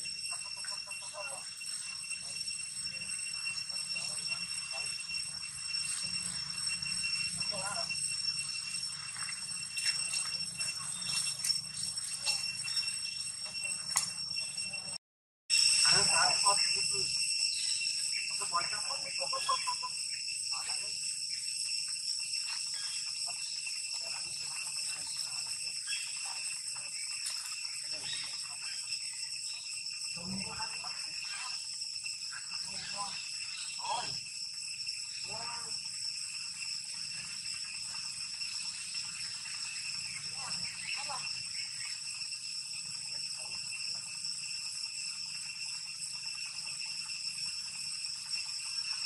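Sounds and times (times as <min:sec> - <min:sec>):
shrill insect chorus: 0:00.0 - 0:49.0.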